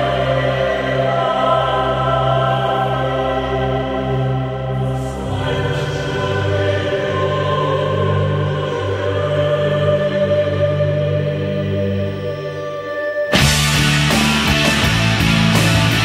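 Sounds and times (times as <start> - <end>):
slow choir-like chords: 0.0 - 16.0.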